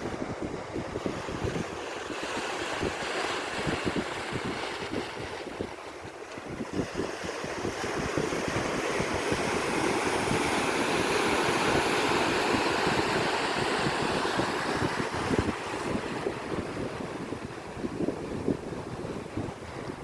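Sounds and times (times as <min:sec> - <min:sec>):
ocean surf on a beach: 0:00.0 - 0:20.0
wind buffeting the microphone: 0:00.0 - 0:20.0.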